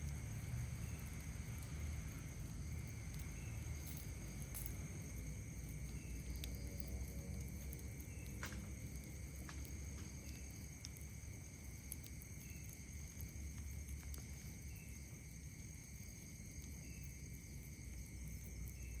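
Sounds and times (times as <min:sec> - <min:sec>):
campfire crackles and pops: 0:00.0 - 0:19.0
night insects trilling: 0:00.0 - 0:19.0.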